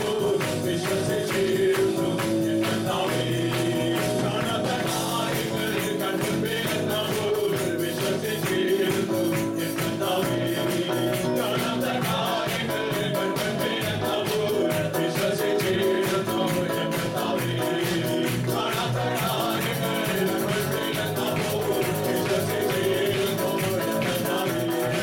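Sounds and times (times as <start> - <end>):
band playing worship music: 0.0 - 25.0
quick percussion beat: 0.0 - 25.0
voices singing: 0.0 - 25.0.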